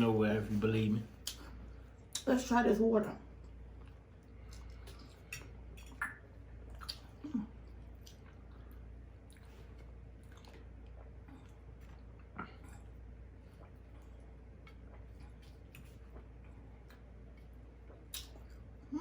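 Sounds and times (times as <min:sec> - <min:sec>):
person drinking and eating: 0:03.5 - 0:18.9.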